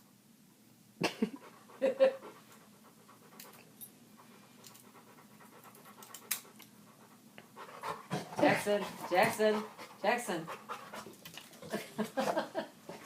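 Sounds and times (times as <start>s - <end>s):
dog panting: 1.4s - 13.0s.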